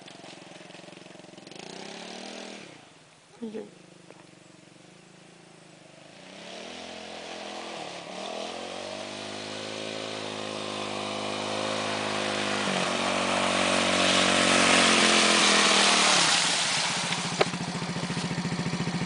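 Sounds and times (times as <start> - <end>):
atv engine revving: 0.0 - 2.9, 3.9 - 19.0.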